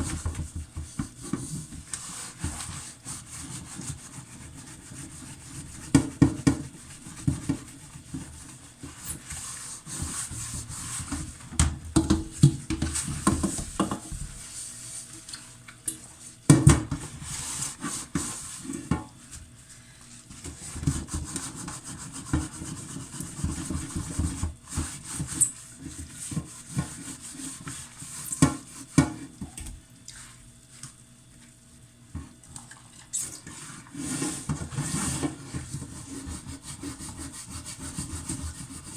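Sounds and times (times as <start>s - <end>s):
scrubbing pot: 0.0s - 11.5s, 12.2s - 19.4s, 20.3s - 29.4s, 32.1s - 38.9s.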